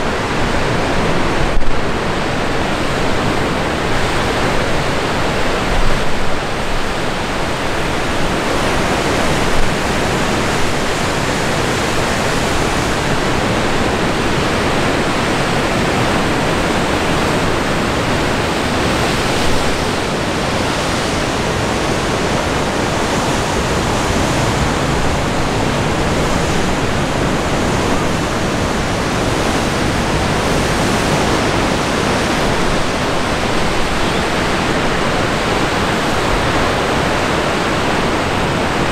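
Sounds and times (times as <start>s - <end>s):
ocean waves breaking on rocks: 0.0s - 38.9s
wind: 0.0s - 38.9s.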